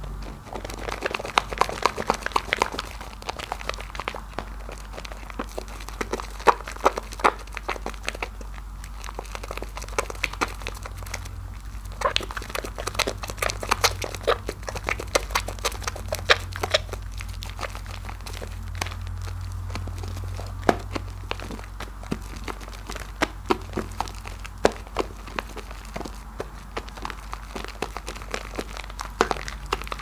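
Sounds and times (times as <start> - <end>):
soap lather squishing: 0.0 - 30.0.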